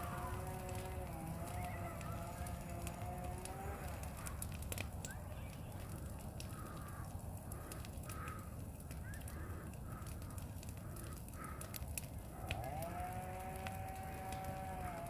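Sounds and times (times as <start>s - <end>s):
long steady animal call: 0.0s - 4.8s, 5.8s - 15.0s
fire crackling and popping: 0.0s - 15.0s
low fire rumble: 0.0s - 15.0s.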